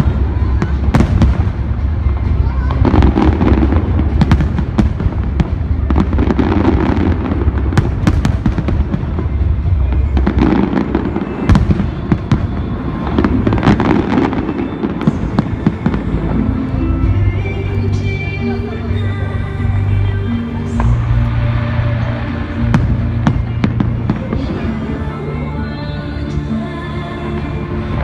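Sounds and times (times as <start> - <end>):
fireworks bangs and cracks: 0.0 - 17.8, 20.6 - 25.2
low rumble: 0.0 - 28.0.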